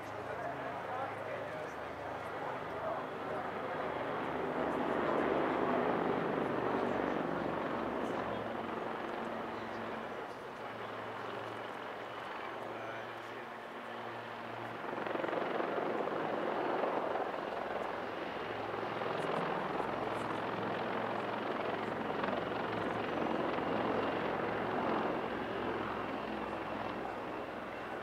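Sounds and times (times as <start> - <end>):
helicopters flying by: 0.0 - 28.0.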